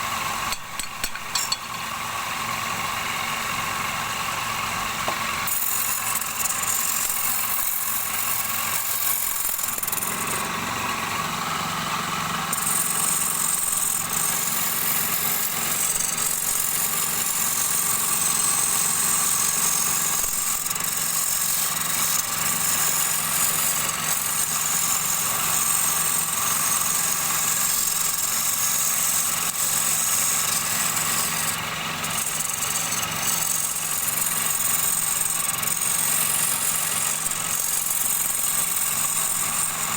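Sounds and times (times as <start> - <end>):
wood lathe motor hum: 0.0 - 39.9.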